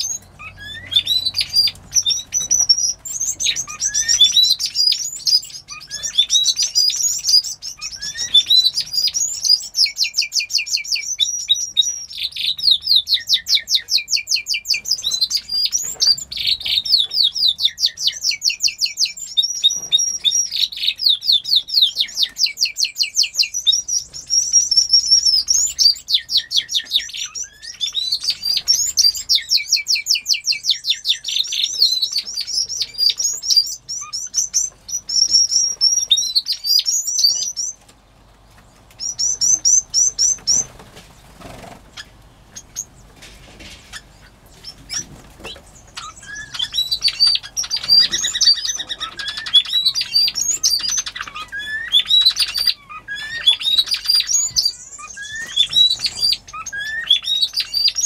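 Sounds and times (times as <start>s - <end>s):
canaries and finches singing: 0.0s - 58.0s.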